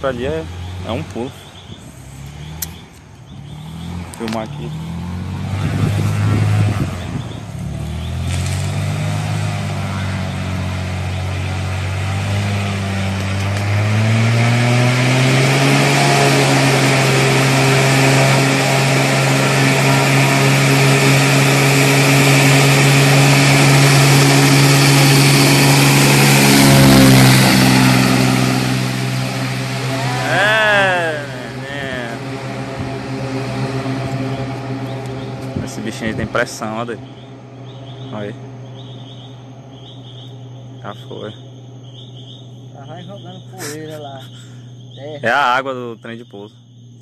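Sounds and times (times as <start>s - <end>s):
propeller plane engine: 0.0s - 45.7s.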